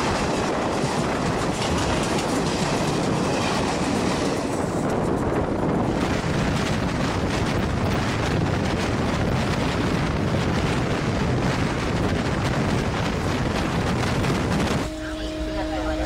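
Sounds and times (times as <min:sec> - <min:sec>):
train wheels rumbling on rail: 0:00.0 - 0:16.0
wind buffeting microphone: 0:00.0 - 0:16.0.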